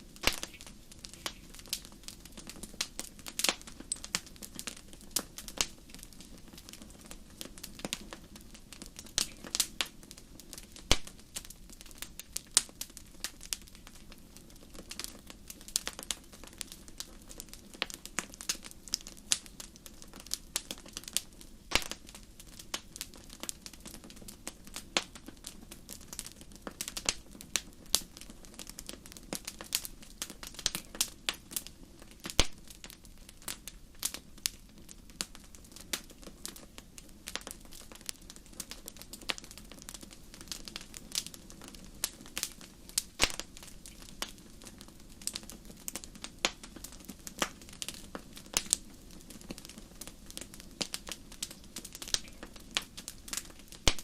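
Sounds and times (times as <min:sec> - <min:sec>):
low steady hiss: 0:00.0 - 0:54.0
wood fire crackling: 0:00.0 - 0:54.0.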